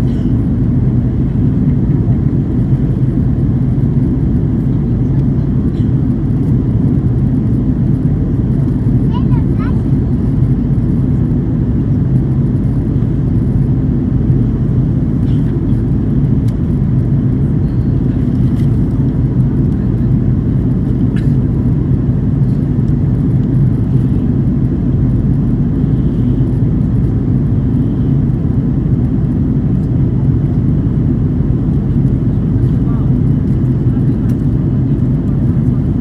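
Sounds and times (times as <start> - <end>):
jet engines droning: 0.0 - 36.0
rushing air in aircraft cabin: 0.0 - 36.0.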